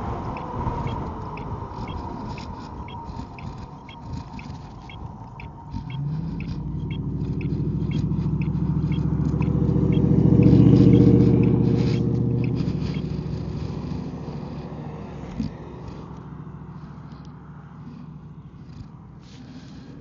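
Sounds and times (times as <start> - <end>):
light regular ticking: 0.0 - 19.0
car engine passing: 0.0 - 20.0.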